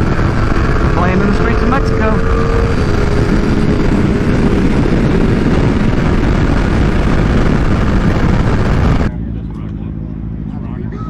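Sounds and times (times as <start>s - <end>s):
wind rush on microphone: 0.0s - 9.1s
motorcycle engine running: 0.0s - 11.0s.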